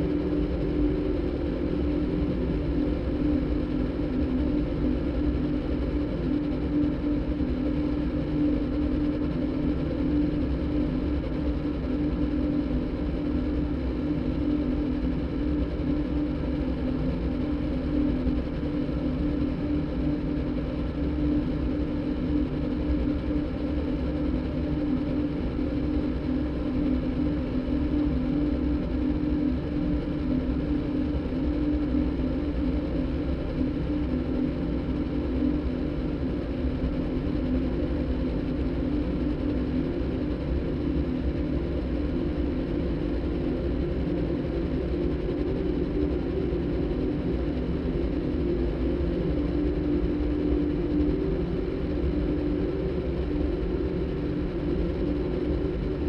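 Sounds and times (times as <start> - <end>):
low engine-like drone: 0.0 - 56.0.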